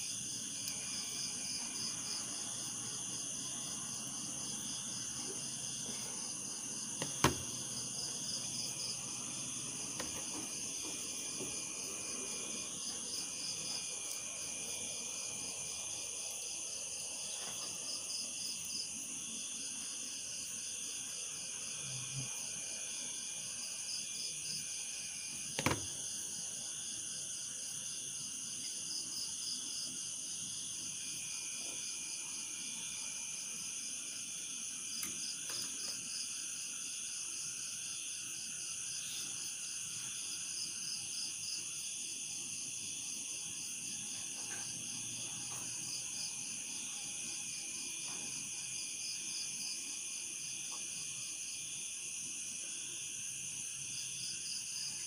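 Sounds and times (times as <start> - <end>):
insect chorus buzzing: 0.0 - 55.0.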